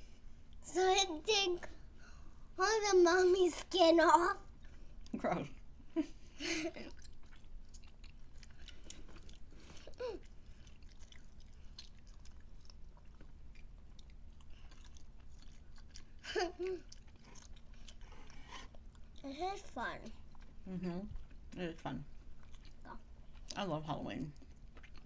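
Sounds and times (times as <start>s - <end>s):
people chewing soft food: 4.3s - 25.0s.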